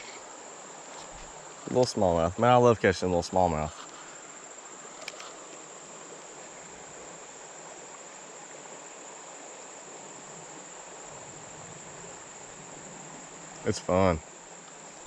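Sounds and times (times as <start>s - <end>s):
even hiss: 0.0s - 15.0s
insects droning: 0.0s - 15.0s.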